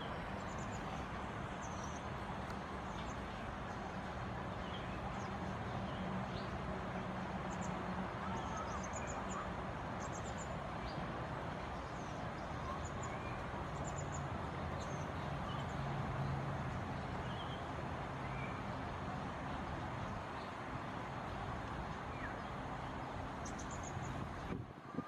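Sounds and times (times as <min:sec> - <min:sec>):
urban traffic hum: 0:00.0 - 0:25.0.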